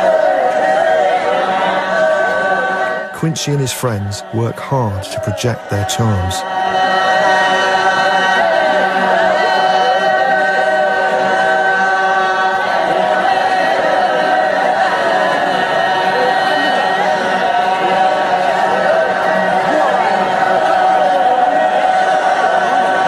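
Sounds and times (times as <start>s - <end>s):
men chanting in a group: 0.0s - 23.0s.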